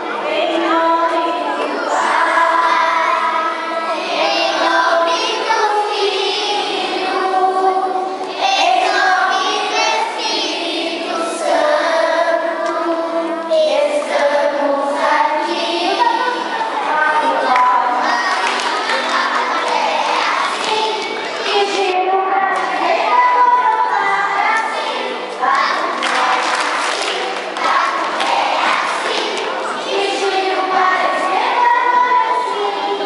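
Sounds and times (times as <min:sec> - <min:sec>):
children singing in unison: 0:00.0 - 0:33.0.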